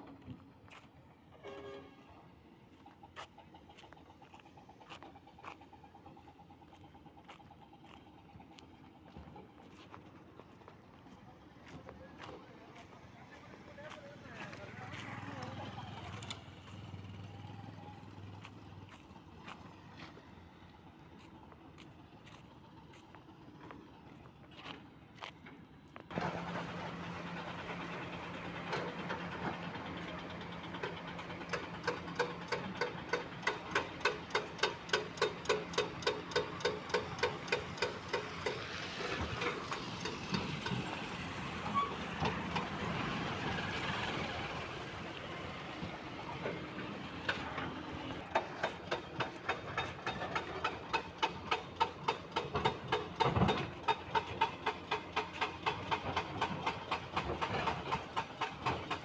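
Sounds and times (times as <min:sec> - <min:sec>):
construction machine engine hum: 0:00.0 - 0:59.0.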